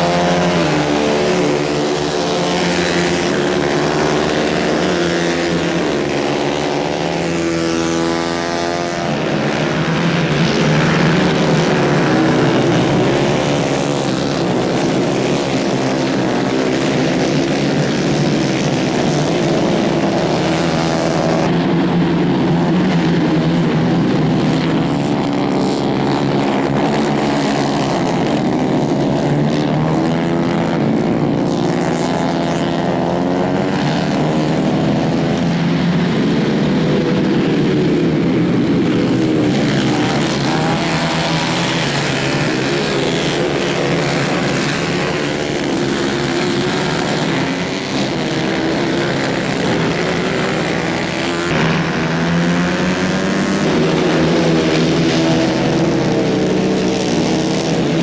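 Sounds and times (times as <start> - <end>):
kart engines revving: 0.0 - 58.0.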